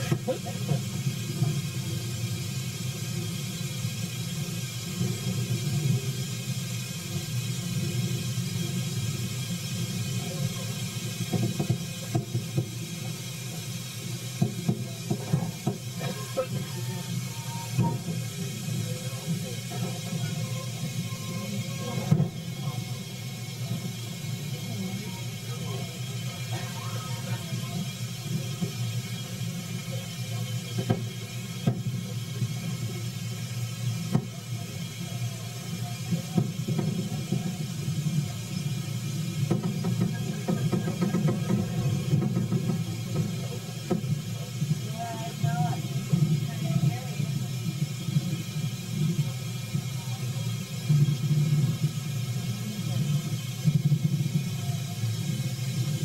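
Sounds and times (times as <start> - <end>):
train knocks and clunks: 0.0 - 56.0
train rumble and hiss: 0.0 - 56.0.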